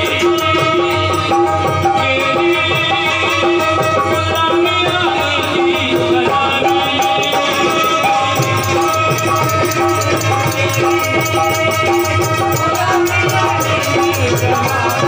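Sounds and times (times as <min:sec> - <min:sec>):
hand cymbals jingling: 0:00.0 - 0:15.0
harmonium melody: 0:00.0 - 0:15.0.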